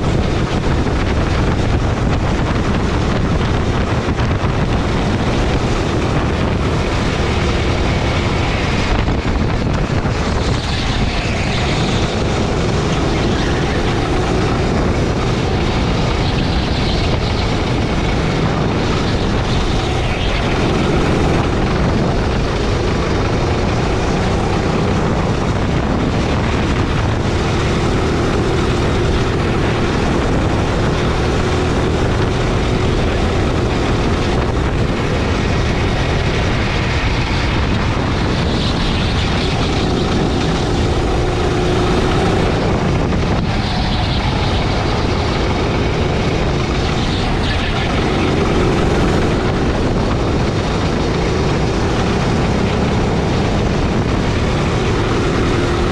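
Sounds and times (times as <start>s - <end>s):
go-kart engine buzzing: 0.0s - 55.9s.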